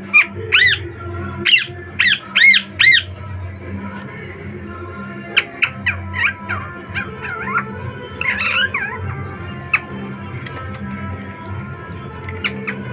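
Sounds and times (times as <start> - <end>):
background music with held tones: 0.0 - 12.9
parakeets calling: 0.0 - 12.9.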